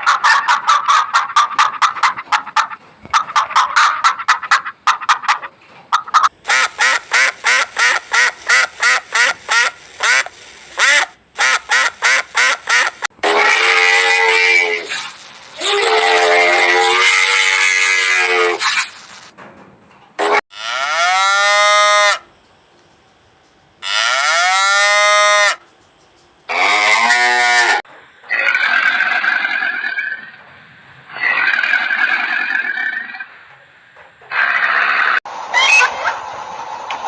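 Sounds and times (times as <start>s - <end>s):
farm animals calling: 0.0s - 19.0s, 20.2s - 22.4s, 23.8s - 25.8s, 26.5s - 33.4s, 34.2s - 36.2s.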